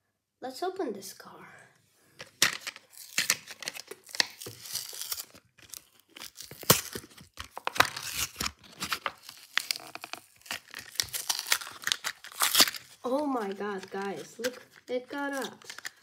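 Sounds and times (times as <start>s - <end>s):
plastic crinkling: 2.4s - 16.0s
cardboard ripping: 2.9s - 16.0s.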